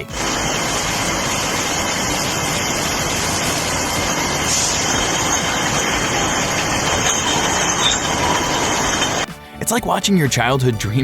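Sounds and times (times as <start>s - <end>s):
factory machinery running: 0.0s - 9.3s.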